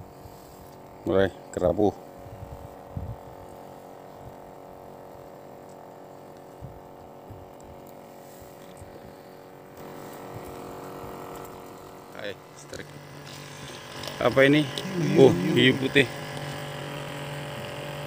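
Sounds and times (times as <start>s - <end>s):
steady motor hum: 0.0s - 18.0s.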